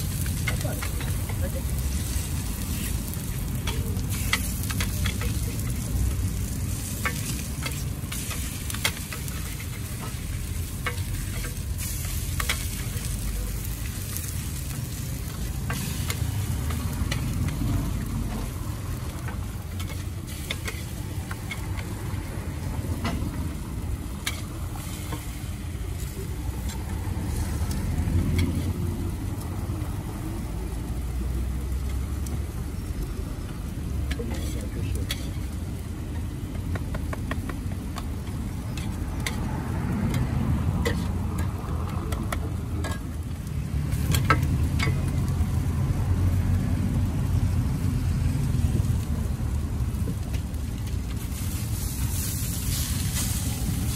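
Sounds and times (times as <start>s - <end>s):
burgers frying on a griddle: 0.0s - 53.9s.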